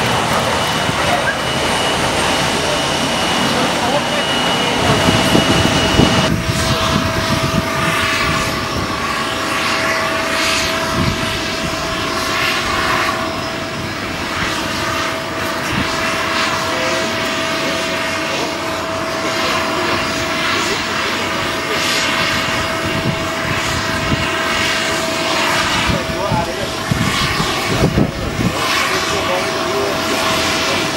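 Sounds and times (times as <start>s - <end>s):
jet engines at takeoff power: 0.0s - 30.9s.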